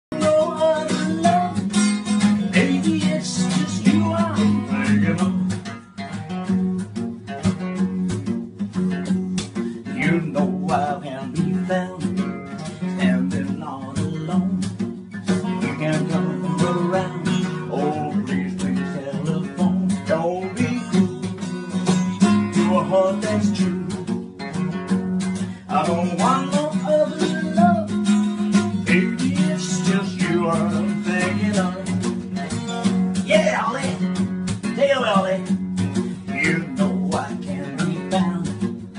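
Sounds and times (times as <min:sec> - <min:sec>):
person singing: 0:00.1 - 0:05.6, 0:09.7 - 0:14.7, 0:15.4 - 0:24.8, 0:25.4 - 0:38.9
strummed acoustic guitar: 0:00.1 - 0:38.9.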